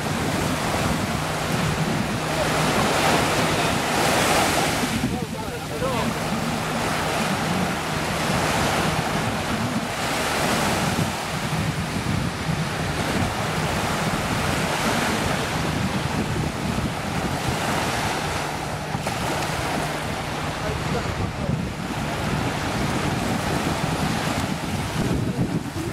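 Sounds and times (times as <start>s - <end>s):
distant jet ski engine drone: 0.0s - 25.9s
surf: 0.0s - 25.9s
wind buffeting microphone: 0.0s - 25.9s.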